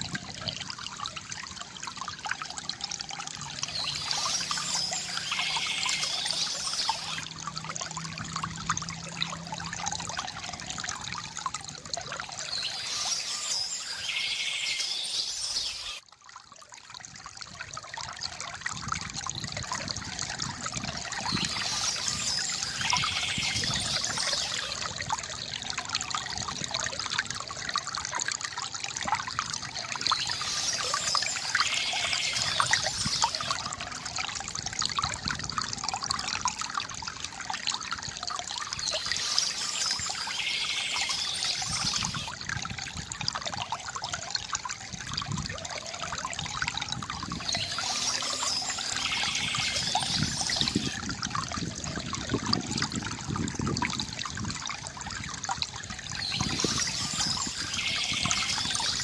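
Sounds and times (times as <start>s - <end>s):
water trickling from bamboo fountain: 0.0s - 59.0s.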